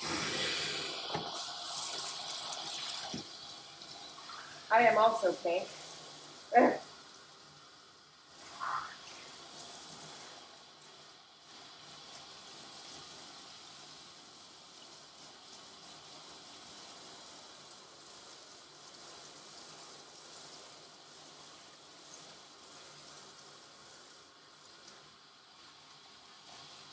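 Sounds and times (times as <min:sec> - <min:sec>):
water hissing from hose sprayer: 0:00.0 - 0:26.9.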